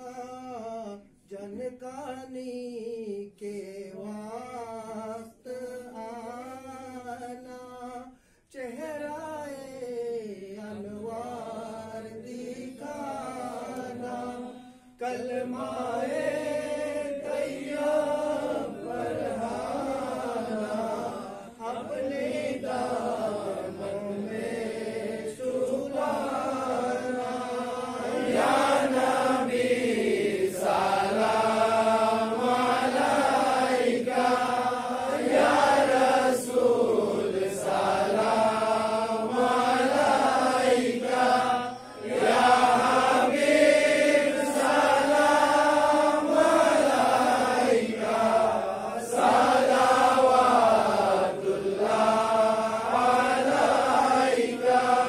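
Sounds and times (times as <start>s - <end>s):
men chanting: 10.2s - 55.0s.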